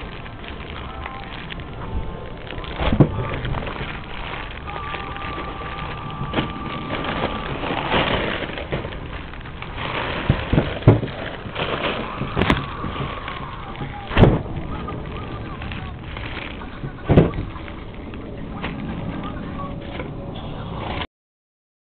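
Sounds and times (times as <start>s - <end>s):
plastic bags rustling and crinkling: 0.0s - 21.1s.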